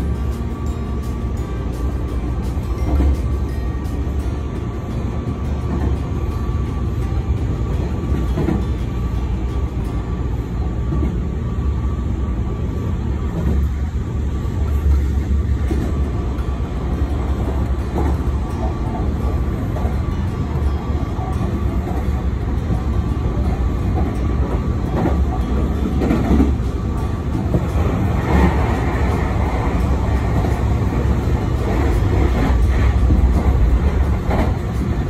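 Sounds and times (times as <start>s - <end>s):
train rumble inside carriage: 0.0s - 35.0s.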